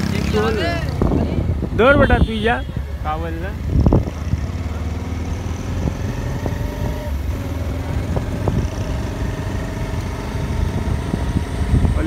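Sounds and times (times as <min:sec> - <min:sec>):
car cabin engine and tyre hum: 0:00.0 - 0:12.0.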